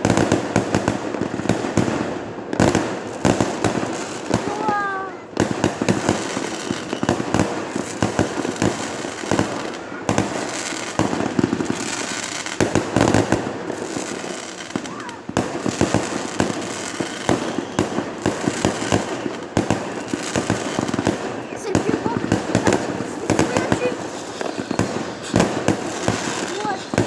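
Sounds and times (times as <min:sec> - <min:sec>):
fireworks banging and crackling: 0:00.0 - 0:27.0.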